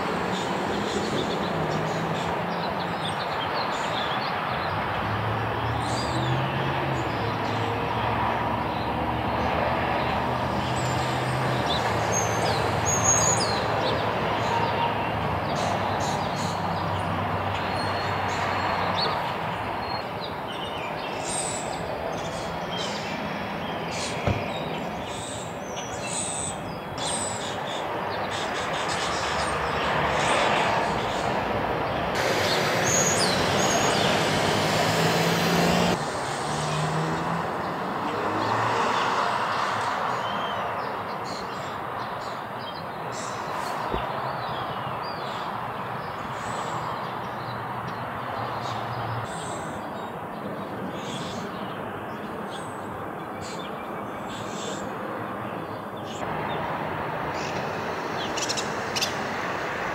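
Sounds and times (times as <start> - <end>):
songbirds chirping: 0.0 - 59.9
traffic noise: 0.0 - 59.9.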